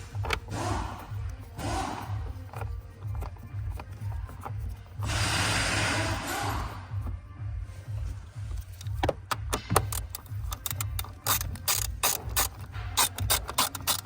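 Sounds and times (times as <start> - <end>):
ratchet wrench clicking: 0.0 - 7.0, 8.6 - 14.0.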